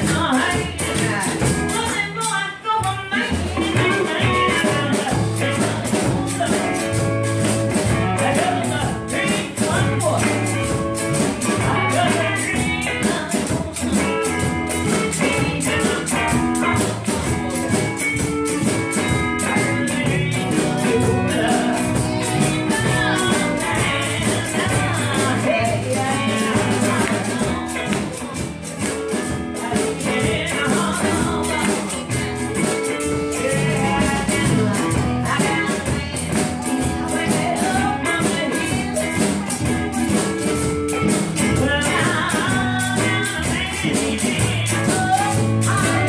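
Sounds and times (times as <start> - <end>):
live blues band: 0.0 - 46.0
person singing: 0.0 - 46.0
quick high percussion beat: 0.0 - 46.0.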